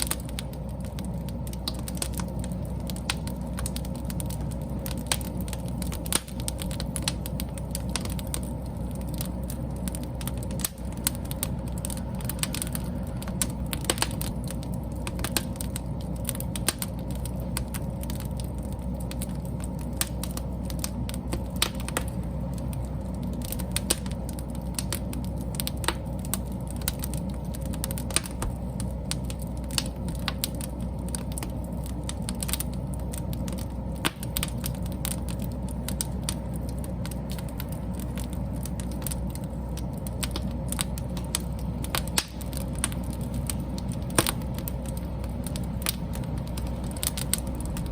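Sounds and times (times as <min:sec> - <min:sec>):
crackles and pops of burning wood: 0:00.0 - 0:47.9
low rumble of flames: 0:00.0 - 0:47.9.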